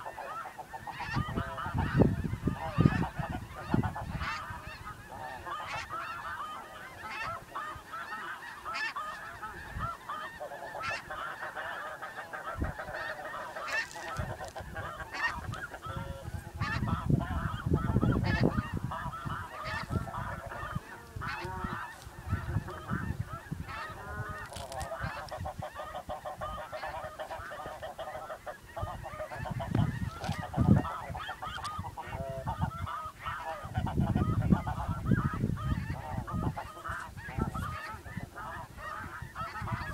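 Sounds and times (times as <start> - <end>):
geese honking: 0.0 - 39.9.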